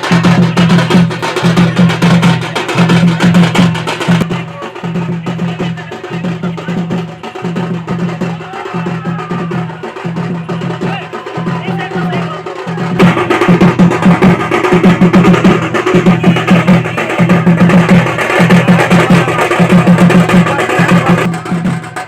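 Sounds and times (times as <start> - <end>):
fast high percussion clatter: 0.0 - 22.0
percussion music with drum beat: 0.0 - 22.0.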